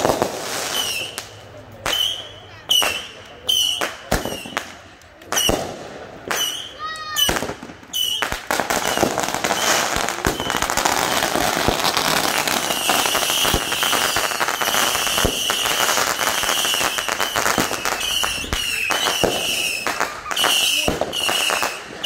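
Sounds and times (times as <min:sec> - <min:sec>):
fireworks crackling and popping: 0:00.0 - 0:22.0
shrill firework whistles: 0:00.6 - 0:01.3, 0:01.9 - 0:04.6, 0:06.3 - 0:21.9.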